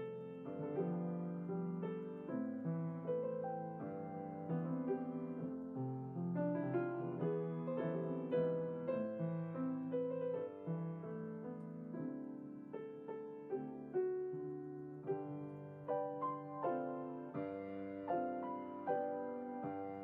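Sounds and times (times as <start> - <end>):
solo piano piece: 0.0 - 20.0.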